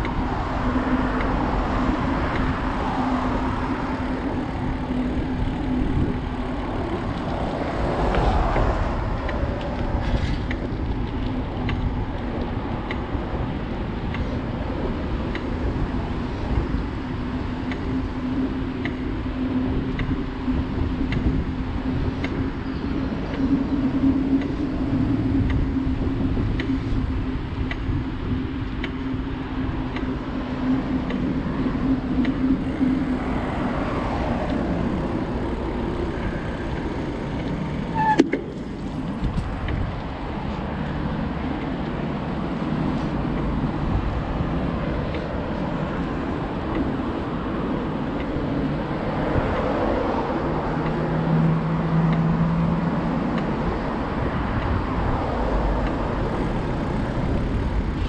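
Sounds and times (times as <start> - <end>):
faint ticks: 0.0 - 1.4, 2.3 - 14.6, 15.2 - 16.9, 17.6 - 21.4, 22.0 - 25.8, 26.4 - 58.0
bicycle rolling on paved path: 0.0 - 58.0
road traffic noise: 0.0 - 58.0.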